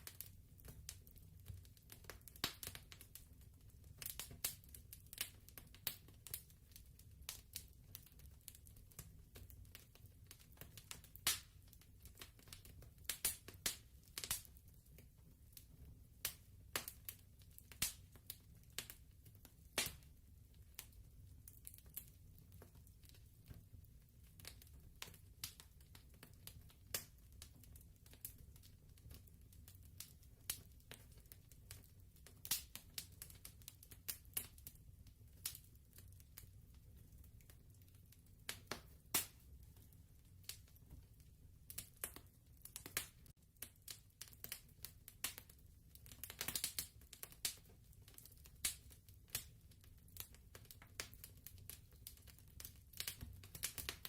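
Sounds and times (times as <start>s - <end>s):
fire pops and snaps: 0.0s - 54.0s
wood fire crackling: 0.0s - 54.0s.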